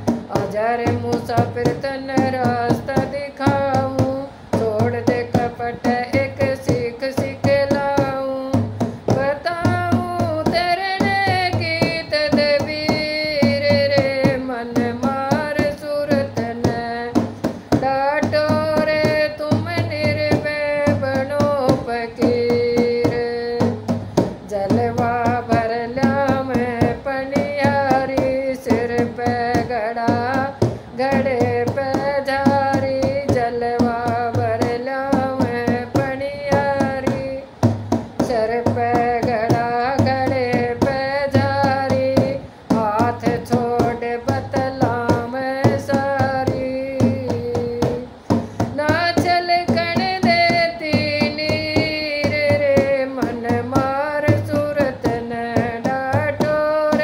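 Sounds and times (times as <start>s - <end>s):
steady repeating drum beat: 0.0s - 57.0s.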